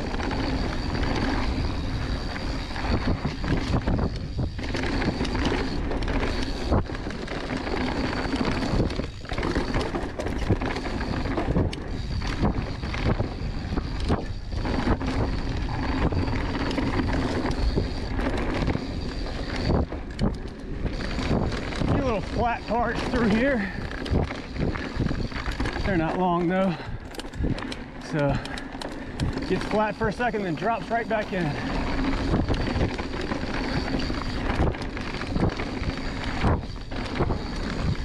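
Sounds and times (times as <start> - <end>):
bike rattling and knocking: 0.0 - 38.0
tyres rolling on dirt: 0.0 - 38.0
wind rushing over microphone: 0.0 - 38.0.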